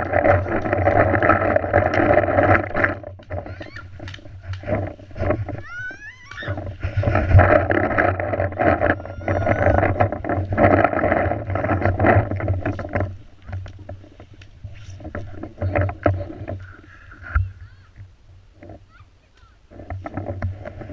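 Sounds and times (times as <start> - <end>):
camera rustling and buffeting: 0.0 - 20.9.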